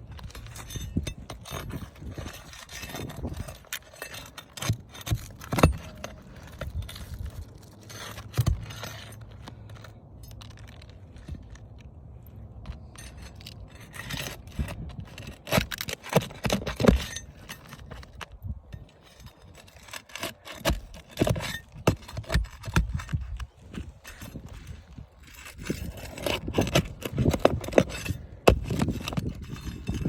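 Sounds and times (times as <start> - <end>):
metal tools clinking and scraping: 0.0 - 30.0.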